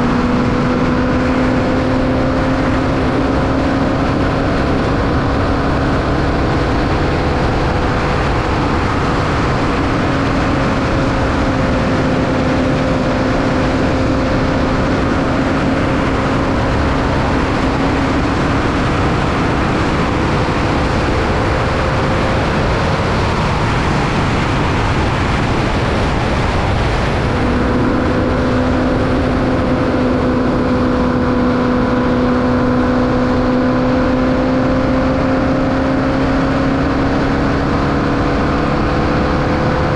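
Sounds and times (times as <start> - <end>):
engine running hard: 0.0 - 39.9
wind and road noise: 0.0 - 39.9.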